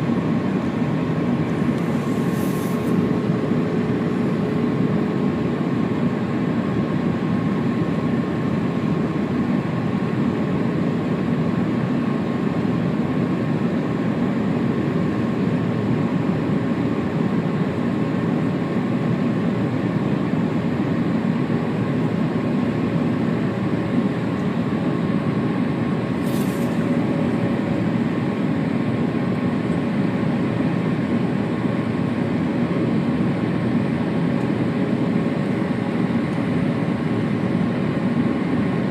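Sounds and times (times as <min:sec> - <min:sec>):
airplane cabin engine noise: 0:00.0 - 0:38.9.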